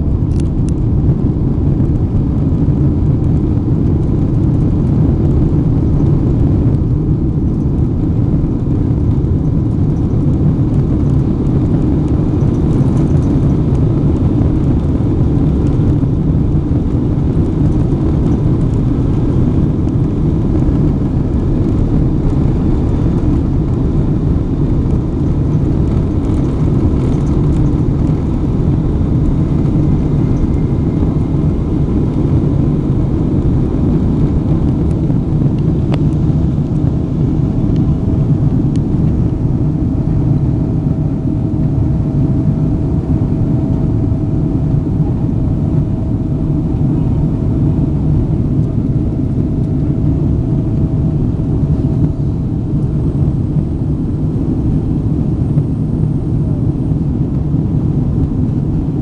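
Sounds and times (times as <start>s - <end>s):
faint steady whine: 0.0s - 59.0s
jet engines roaring: 0.0s - 59.0s.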